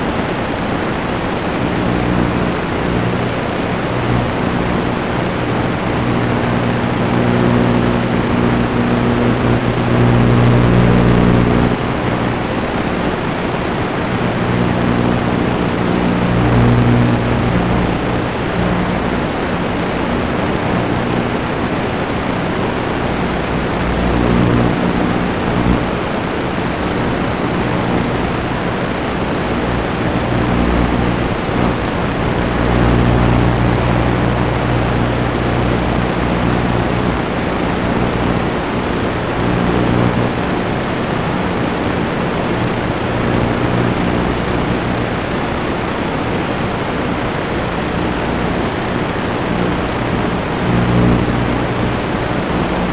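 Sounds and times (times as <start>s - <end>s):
drone motors humming: 0.0s - 45.1s.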